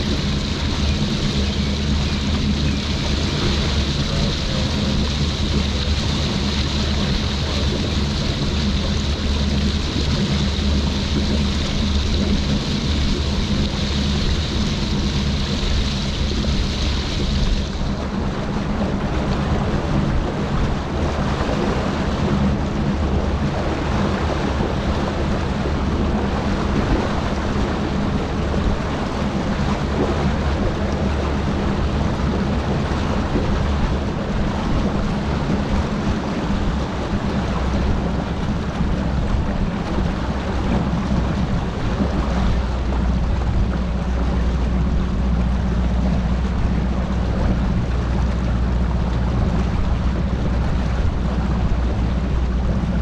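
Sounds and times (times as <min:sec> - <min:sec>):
outboard motor droning: 0:00.0 - 0:53.0
water rushing along hull: 0:00.0 - 0:53.0
wind on microphone: 0:00.0 - 0:53.0.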